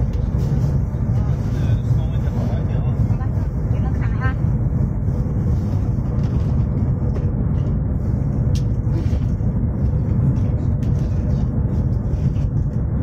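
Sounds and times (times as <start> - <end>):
high-speed train rumble: 0.0 - 13.0.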